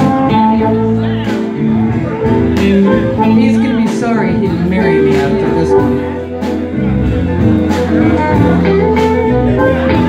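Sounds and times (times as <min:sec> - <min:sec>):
live blues band playing: 0:00.0 - 0:10.0.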